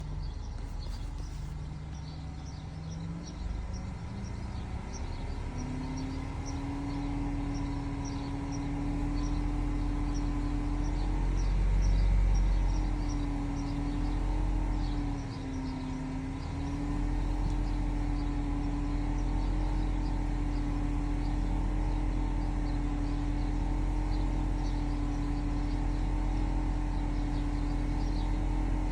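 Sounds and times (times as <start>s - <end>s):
car engine running with whine: 0.0s - 28.9s.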